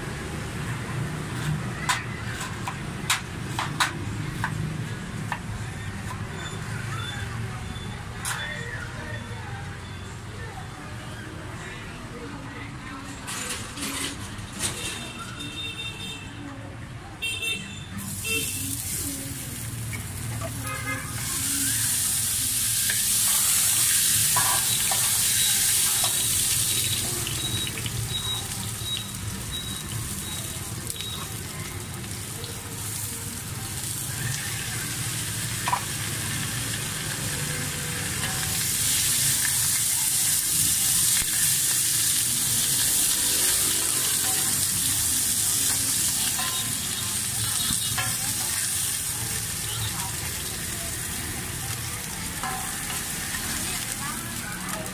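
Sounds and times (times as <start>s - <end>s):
food sizzling in oil: 0.0s - 8.4s, 18.0s - 54.9s.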